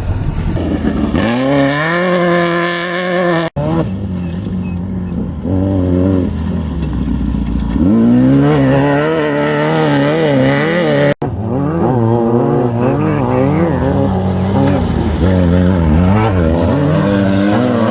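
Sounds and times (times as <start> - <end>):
engine running: 0.0 - 17.9
off-road vehicle engine revving: 0.6 - 17.9.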